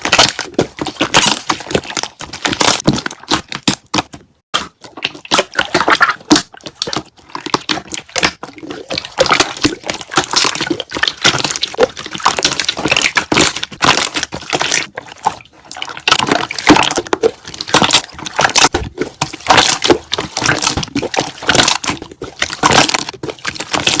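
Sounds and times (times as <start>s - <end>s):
slime air bubbles popping: 4.6s - 24.0s.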